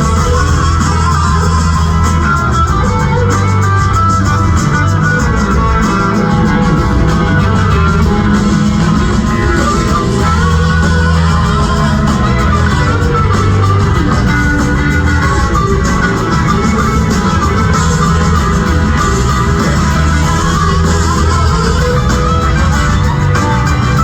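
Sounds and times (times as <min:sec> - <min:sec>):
drum and cymbal beat: 0:00.0 - 0:24.0
live rock band playing: 0:00.0 - 0:24.0.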